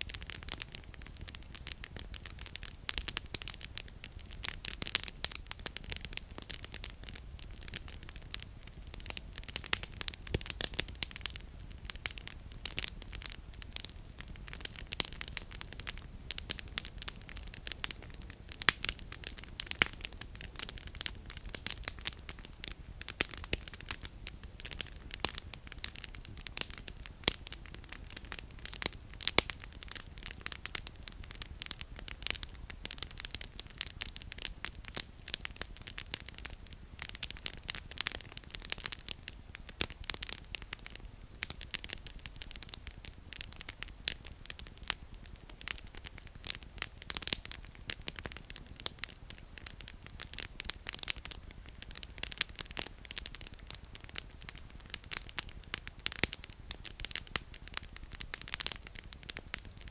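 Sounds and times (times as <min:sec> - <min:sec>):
campfire crackling and popping: 0:00.0 - 0:59.9
low steady hiss: 0:00.0 - 0:59.9.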